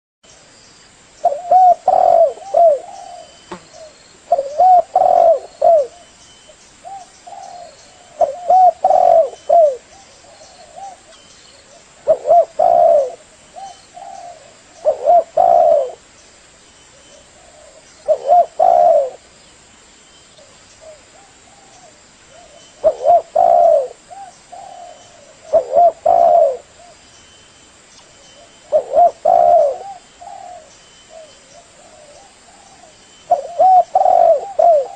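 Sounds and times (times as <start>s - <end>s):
dove cooing: 1.2s - 6.2s, 6.8s - 16.1s, 16.9s - 19.3s, 20.4s - 27.0s, 28.4s - 34.9s.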